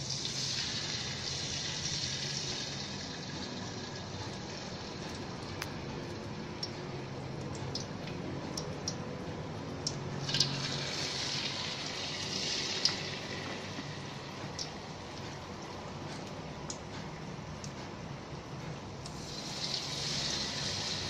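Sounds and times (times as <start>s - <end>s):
deep-frying sizzle with crackles: 0.0s - 21.0s.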